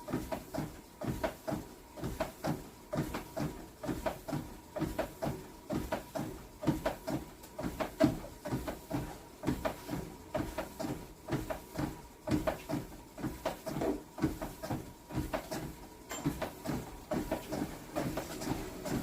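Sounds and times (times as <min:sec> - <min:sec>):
knocks and thuds from workout: 0:00.1 - 0:19.0.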